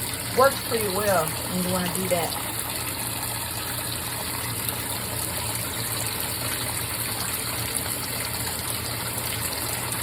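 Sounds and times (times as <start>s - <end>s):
water gushing into washing machine: 0.0s - 10.0s.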